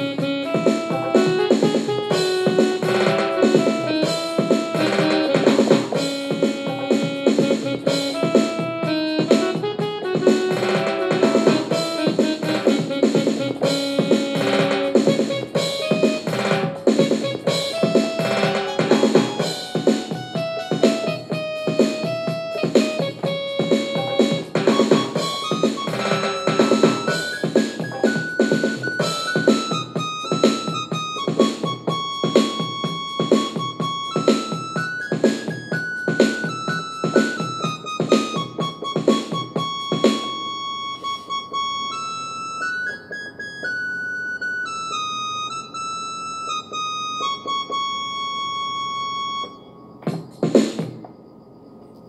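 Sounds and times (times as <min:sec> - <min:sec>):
electronic keyboard melody: 0:00.0 - 0:52.0
keyboard rhythmic accompaniment: 0:00.0 - 0:52.0.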